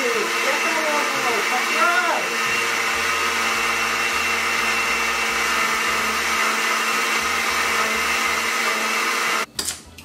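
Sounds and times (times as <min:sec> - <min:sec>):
blender running: 0:00.0 - 0:09.5.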